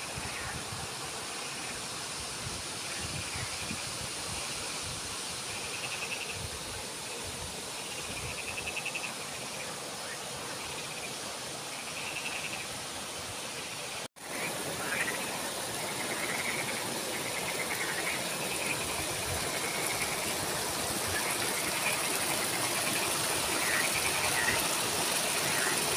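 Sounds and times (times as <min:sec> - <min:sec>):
flowing stream water: 0:00.0 - 0:25.9.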